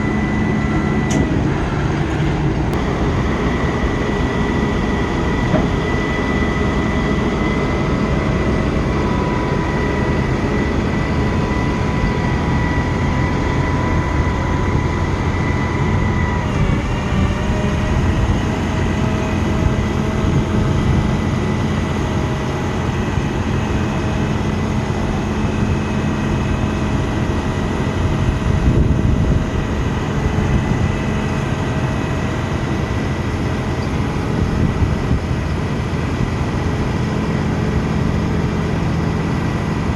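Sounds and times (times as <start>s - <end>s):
hydraulic whining tones: 0.0s - 39.9s
truck engine running: 0.0s - 39.9s.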